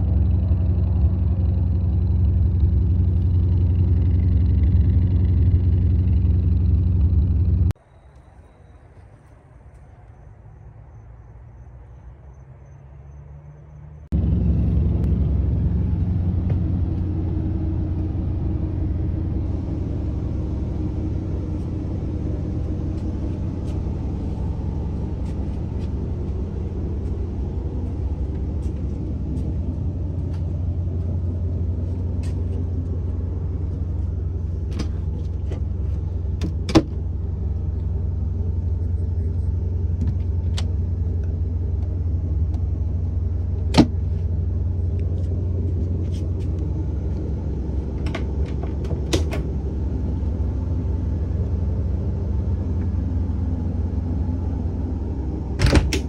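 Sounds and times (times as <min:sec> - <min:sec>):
low mechanical rumble: 0:00.0 - 0:56.0.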